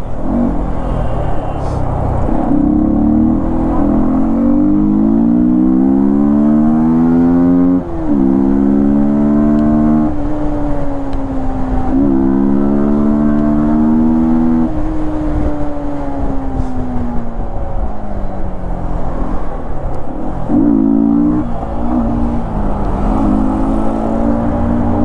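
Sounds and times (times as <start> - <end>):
motorcycle engine accelerating: 0.0 - 16.5, 19.0 - 25.0.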